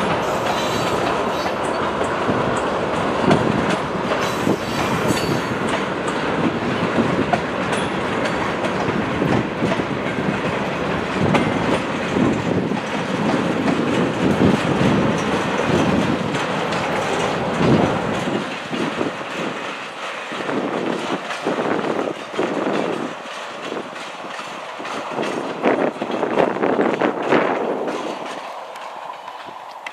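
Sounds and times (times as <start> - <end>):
train wheels clickety-clacking: 0.0 - 29.9.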